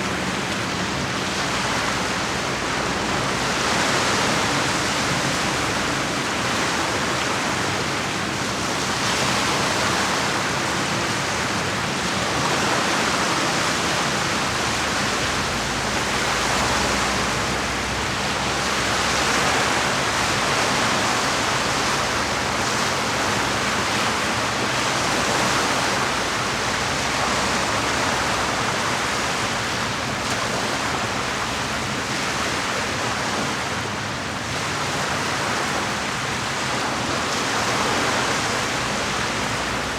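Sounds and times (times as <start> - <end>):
lake waves washing against shore: 0.0 - 39.9.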